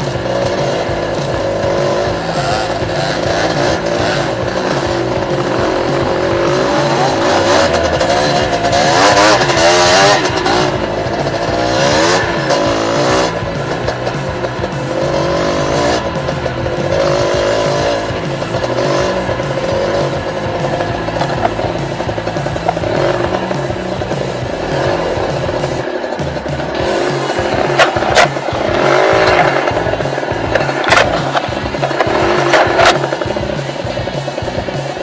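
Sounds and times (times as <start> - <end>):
background music: 0.0 - 35.0
dirt bike engine revving: 0.0 - 35.0.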